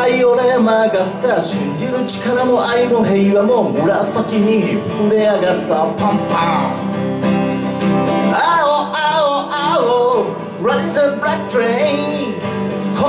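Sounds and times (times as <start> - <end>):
man singing: 0.0 - 7.0, 8.2 - 13.0
strummed acoustic guitar: 0.0 - 13.0.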